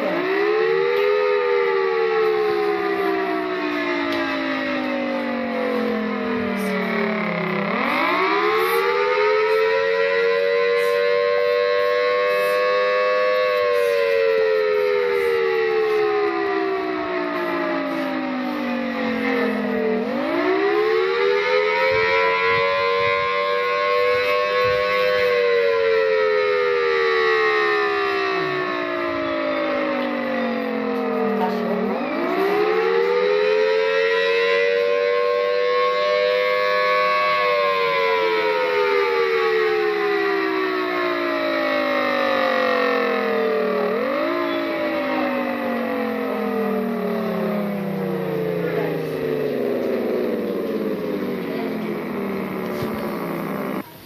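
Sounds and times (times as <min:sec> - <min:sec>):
tornado warning siren wailing: 0:00.0 - 0:54.0.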